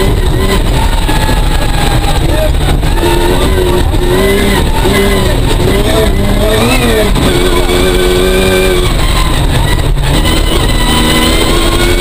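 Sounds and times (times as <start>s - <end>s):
car engine under load: 0.0s - 12.0s
tyres rumbling on rough ground: 0.0s - 12.0s.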